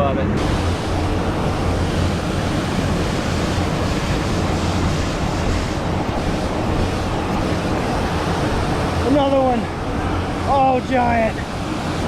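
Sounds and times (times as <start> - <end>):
wind rumbling on microphone: 0.0 - 12.0
stream water rushing: 0.3 - 12.0.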